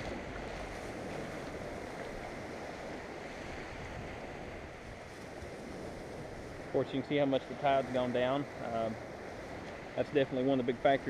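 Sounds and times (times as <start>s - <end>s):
surf washing onto beach: 0.0s - 11.0s
wind rumbling on microphone: 0.0s - 11.0s.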